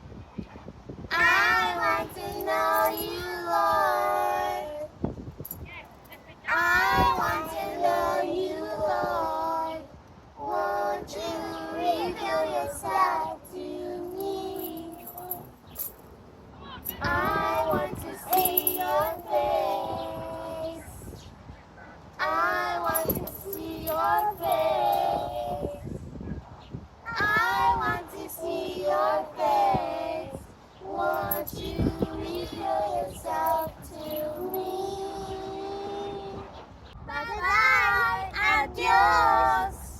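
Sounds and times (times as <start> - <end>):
children singing: 1.1 - 4.9, 6.5 - 15.5, 16.9 - 21.0, 22.2 - 25.8, 27.1 - 36.4, 37.1 - 39.9.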